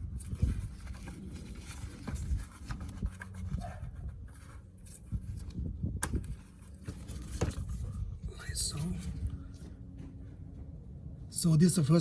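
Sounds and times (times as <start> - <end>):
rubbing and handling noise: 0.0 - 9.8.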